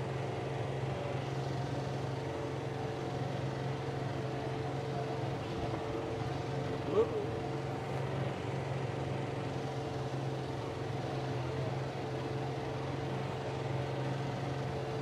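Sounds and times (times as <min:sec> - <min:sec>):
rotary mower hum: 0:00.0 - 0:15.0
tractor diesel engine running: 0:00.0 - 0:15.0.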